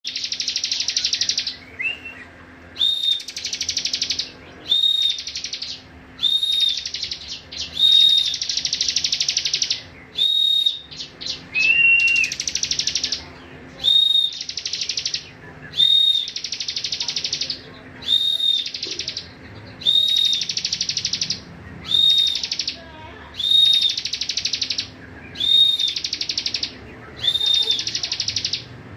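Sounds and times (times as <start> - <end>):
songbird with buzzing trill: 0.1 - 22.8, 23.4 - 28.7.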